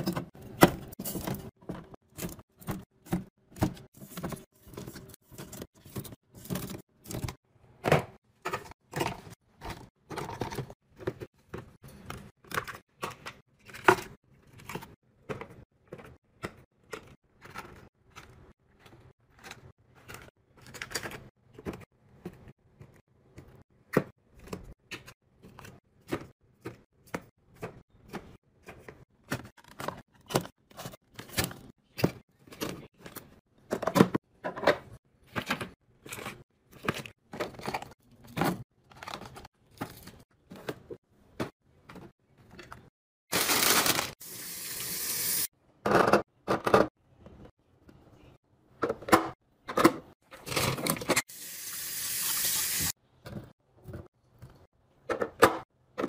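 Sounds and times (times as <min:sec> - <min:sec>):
items being handled and set down: 0:00.0 - 0:44.2, 0:48.8 - 0:51.3.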